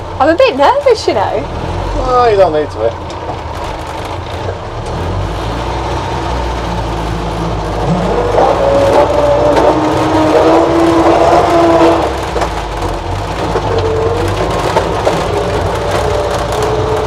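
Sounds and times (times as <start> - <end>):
car engine and drivetrain whine: 0.0 - 17.0.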